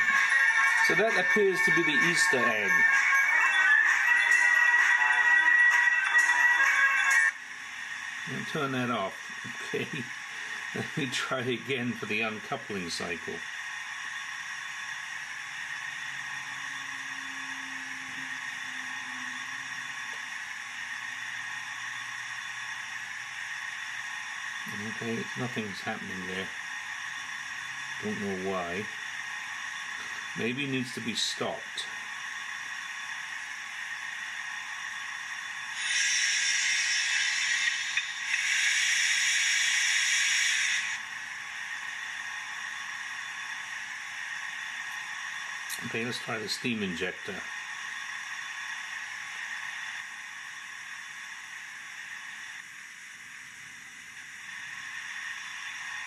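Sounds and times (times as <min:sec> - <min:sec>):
steady hiss from small speaker: 0:00.0 - 0:56.0.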